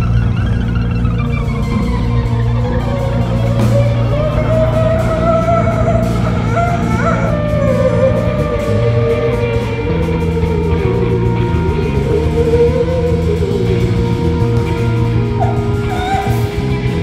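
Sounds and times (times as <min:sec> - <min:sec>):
bass line: 0:00.0 - 0:17.0
sliding lead melody: 0:00.0 - 0:17.0.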